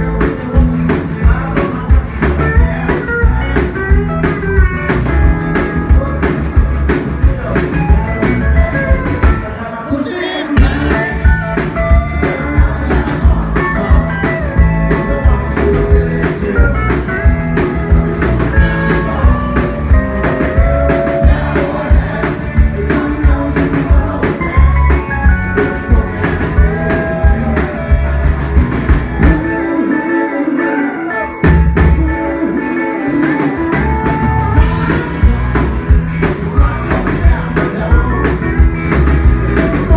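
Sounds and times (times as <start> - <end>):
bass: 0.0 - 30.4, 31.1 - 39.9
drums: 0.0 - 39.9
electric guitar: 0.0 - 39.9
person singing: 0.0 - 39.9.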